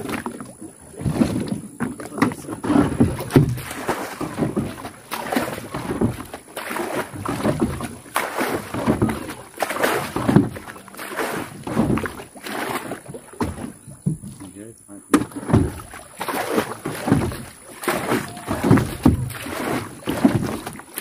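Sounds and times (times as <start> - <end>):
rowboat splashing and knocking: 0.0 - 21.0.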